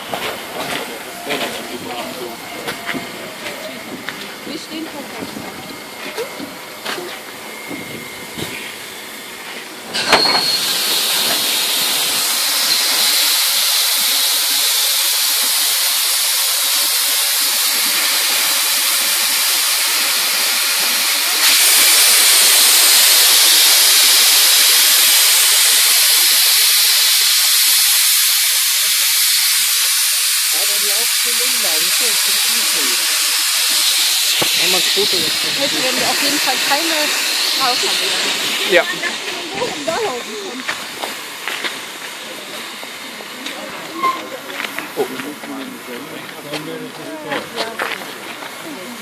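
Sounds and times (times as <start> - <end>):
loud steam hiss: 0.0 - 49.0
steam locomotive venting steam: 0.0 - 49.0.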